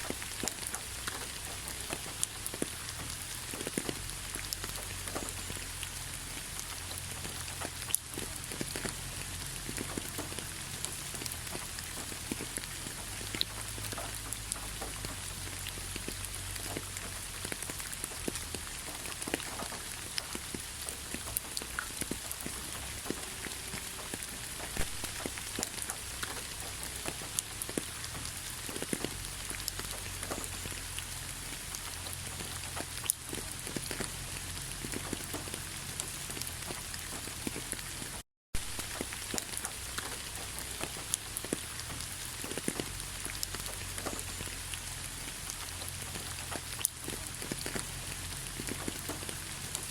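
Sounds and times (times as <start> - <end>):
raindrop ticks: 0.0 - 49.9
steady rain hiss: 0.0 - 49.9.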